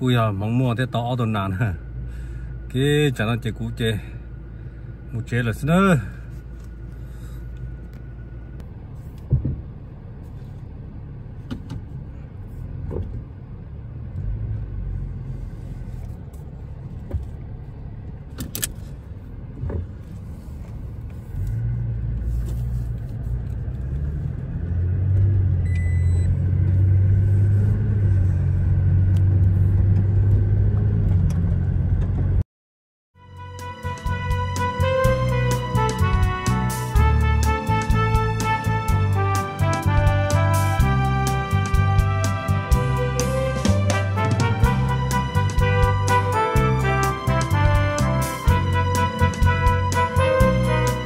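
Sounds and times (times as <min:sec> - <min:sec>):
road and engine rumble in cabin: 0:00.0 - 0:32.4, 0:33.2 - 0:51.0.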